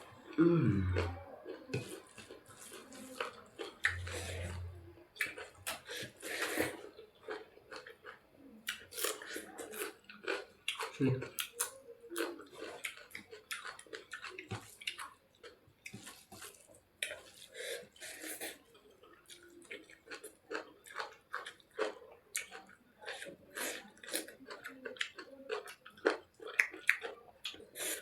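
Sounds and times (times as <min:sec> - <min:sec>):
wet chewing and lip-smacking: 0:00.3 - 0:28.0.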